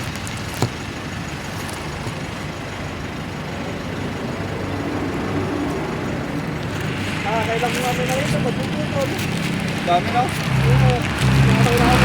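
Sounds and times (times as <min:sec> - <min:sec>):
heavy vehicle engine running: 0:00.0 - 0:12.0
roadside traffic: 0:00.0 - 0:12.0.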